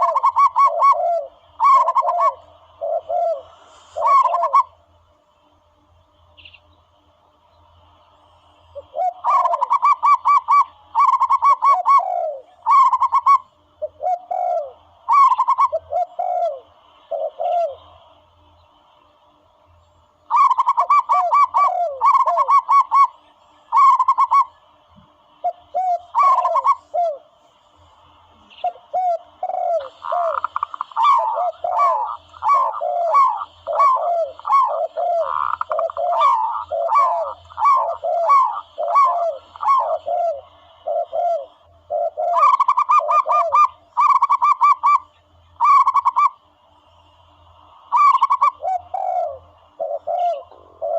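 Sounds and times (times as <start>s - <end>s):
doves cooing: 0.0s - 4.9s, 8.8s - 18.2s, 20.3s - 27.4s, 28.1s - 46.5s, 47.5s - 50.9s.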